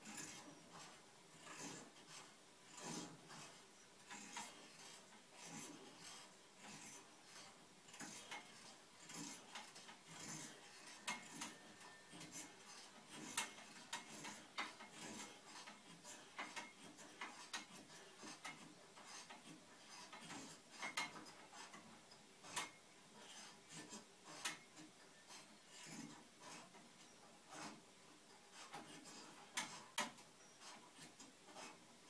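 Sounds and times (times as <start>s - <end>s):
faint clicks and ticks: 0.0s - 32.0s.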